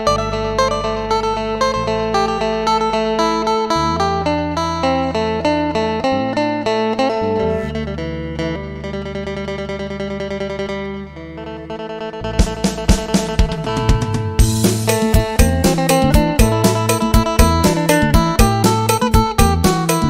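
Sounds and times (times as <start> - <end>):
plucked lute melody: 0.0 - 20.0.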